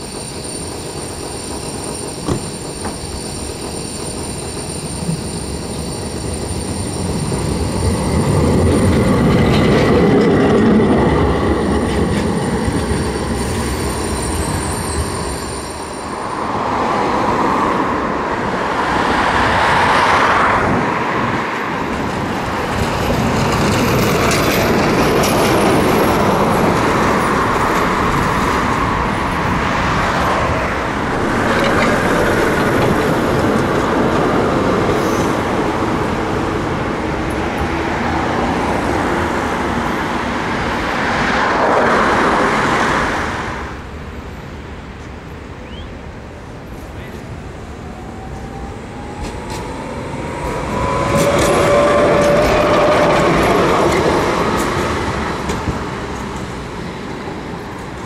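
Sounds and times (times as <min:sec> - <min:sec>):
road traffic: 0:00.0 - 0:58.0
tram wheels on rails: 0:00.0 - 0:58.0.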